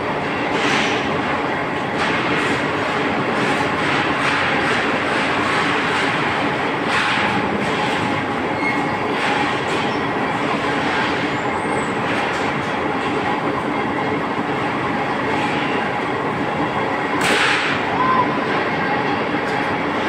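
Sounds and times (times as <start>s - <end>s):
rolling mill mechanical din: 0.0s - 20.0s.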